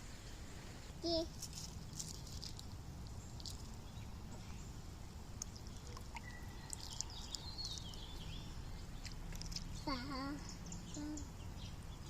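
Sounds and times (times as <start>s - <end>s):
small birds chirping: 1.0s - 12.0s.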